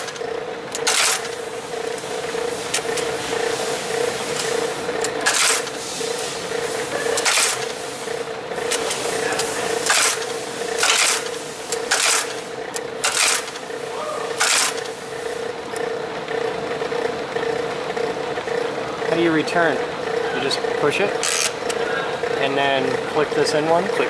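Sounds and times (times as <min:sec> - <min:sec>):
embossing machine motor hum: 0:00.0 - 0:24.0.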